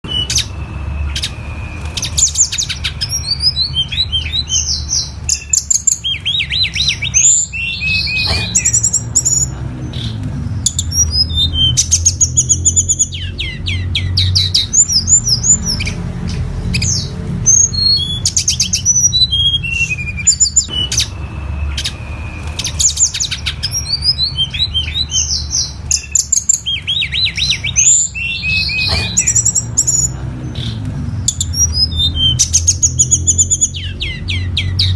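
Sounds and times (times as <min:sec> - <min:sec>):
bird singing trills and chirps: 0:00.0 - 0:34.9.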